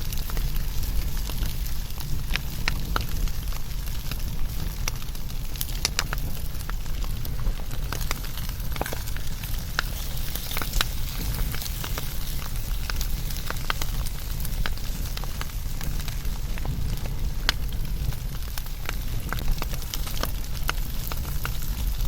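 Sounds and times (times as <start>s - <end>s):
burning wood crackling and popping: 0.0s - 22.0s
flames rumbling: 0.0s - 22.0s.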